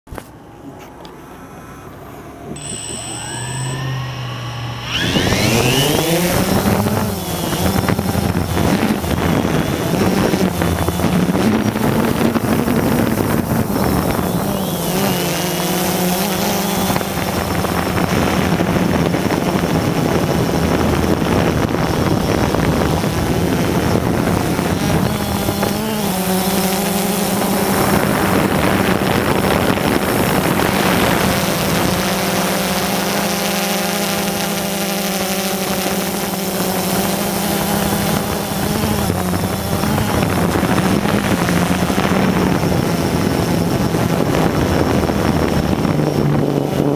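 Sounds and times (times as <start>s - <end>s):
drone propellers buzzing: 0.1s - 46.9s.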